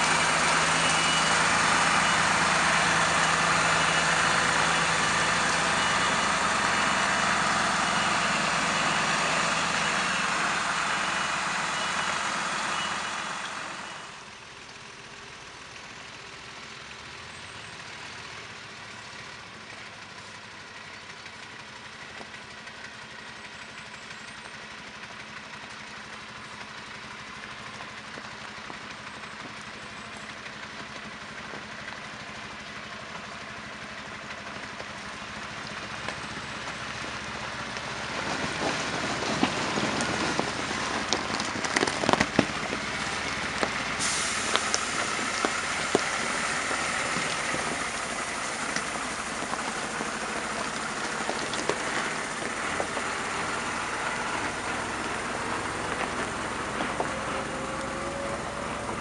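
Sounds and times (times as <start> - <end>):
fire truck diesel engine: 0.0 - 59.0.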